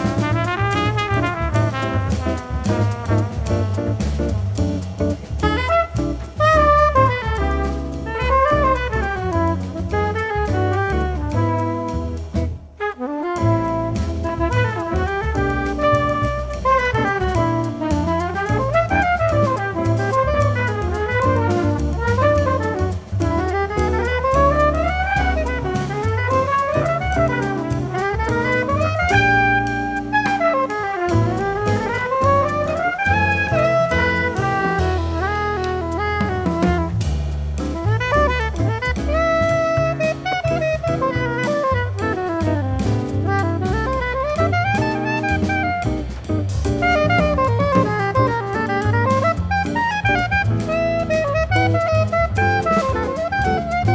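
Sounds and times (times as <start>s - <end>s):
bass: 0.0s - 53.9s
drum kit: 0.0s - 53.9s
horn melody: 0.0s - 53.9s.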